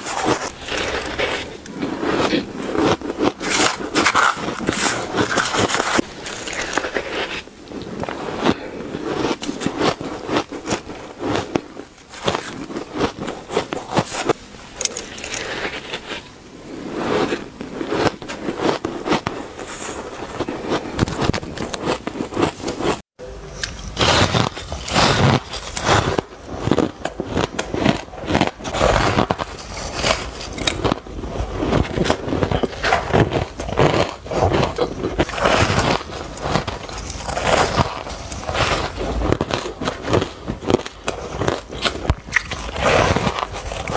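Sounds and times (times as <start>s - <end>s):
crunching ice with teeth: 0.0s - 43.9s.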